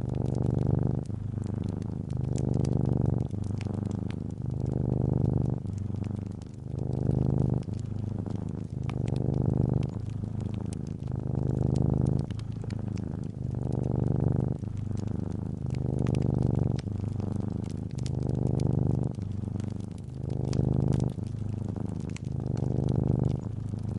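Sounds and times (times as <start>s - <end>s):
cat purring: 0.0s - 23.9s
fireplace crackles: 0.0s - 23.9s.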